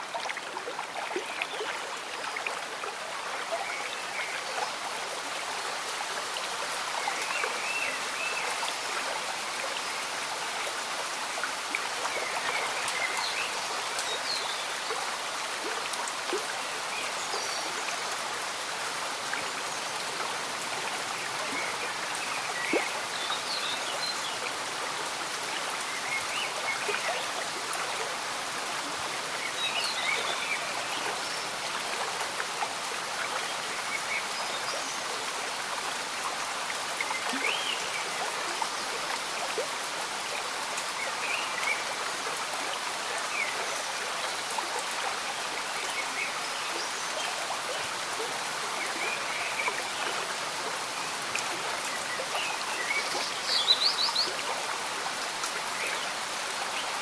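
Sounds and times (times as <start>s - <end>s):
gentle rain falling: 0.0s - 57.0s
stream bubbling: 0.0s - 57.0s.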